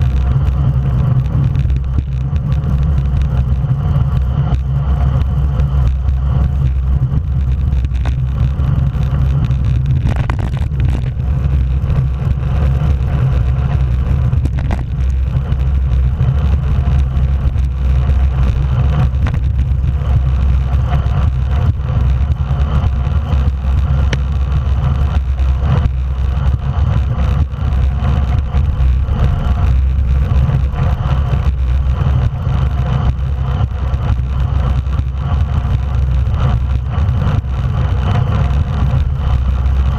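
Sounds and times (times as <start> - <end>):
bike tyres on asphalt: 0.0 - 39.9
wind rumble on microphone: 0.0 - 39.9.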